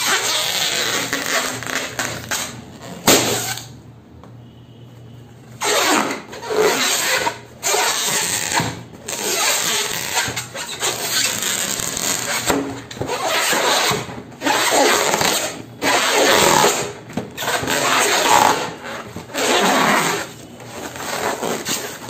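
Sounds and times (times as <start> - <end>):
squeaky rubbing of latex balloon: 0.0 - 3.8, 5.6 - 22.0.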